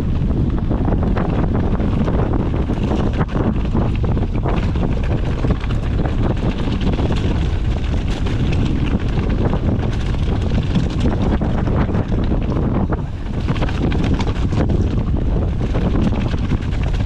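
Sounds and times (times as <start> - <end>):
bike clicking and rattling: 0.0 - 17.0
wind buffeting microphone: 0.0 - 17.0.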